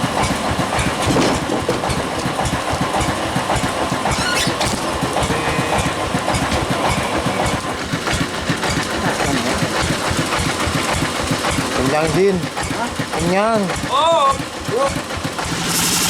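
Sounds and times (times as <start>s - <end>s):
engine with fast even beat: 0.0s - 16.0s
machinery clicks and rattles: 0.0s - 16.0s.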